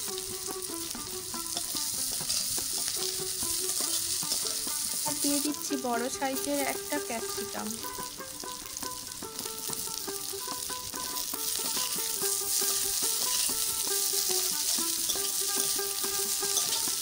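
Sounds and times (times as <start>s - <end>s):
light melodic background tune: 0.0s - 17.0s
vegetables sizzling in oil: 0.0s - 17.0s
spatula stirring in metal pan: 0.1s - 17.0s.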